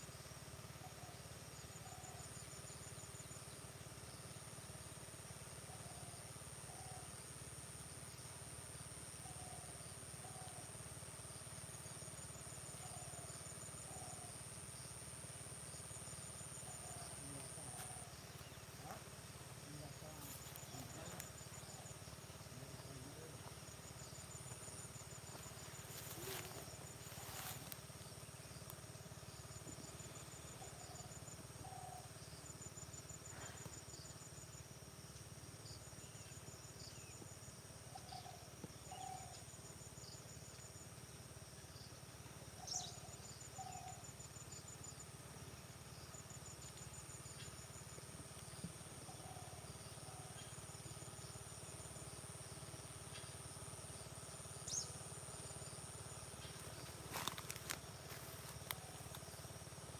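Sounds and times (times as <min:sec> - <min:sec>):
cricket pulsed chirp: 0:00.0 - 0:59.9
insects high-pitched drone: 0:00.0 - 0:59.9.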